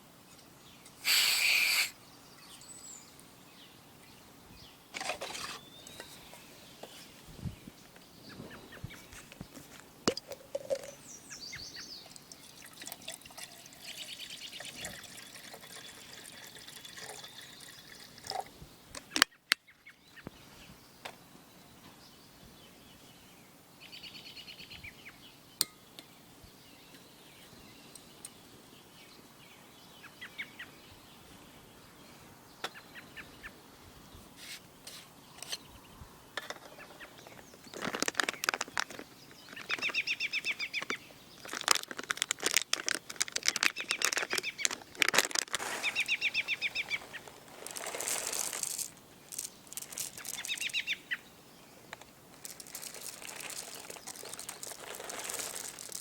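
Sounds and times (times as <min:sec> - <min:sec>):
birds chirping: 0:00.0 - 0:09.7, 0:10.6 - 0:41.7, 0:42.6 - 0:56.0.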